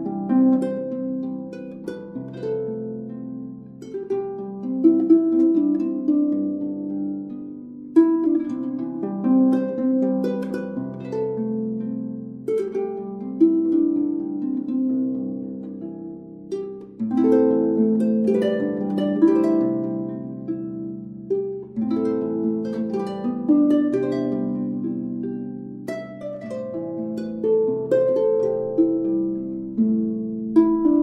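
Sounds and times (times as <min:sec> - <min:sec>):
plucked string music: 0:00.0 - 0:31.0.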